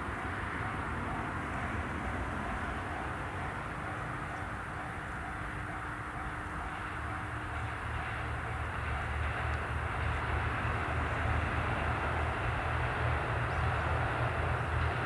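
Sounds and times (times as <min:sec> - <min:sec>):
diesel train engine rumble: 0:00.0 - 0:15.0.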